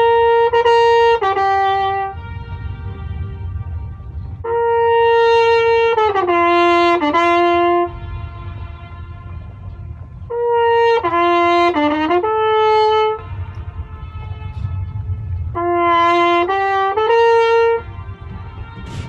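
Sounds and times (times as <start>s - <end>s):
flugelhorn playing: 0.0s - 19.0s
low background rumble: 0.0s - 19.0s.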